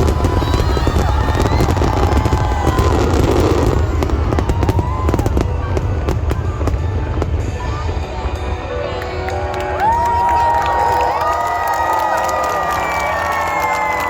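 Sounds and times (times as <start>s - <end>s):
fireworks crackling and booming: 0.0s - 11.6s.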